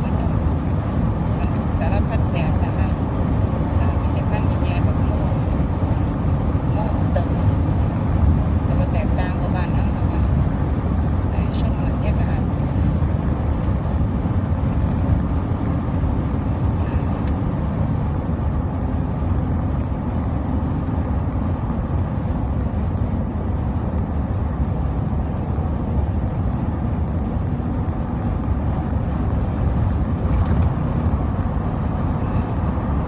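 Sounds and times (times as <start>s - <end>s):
freeway traffic rumble: 0.0s - 33.0s.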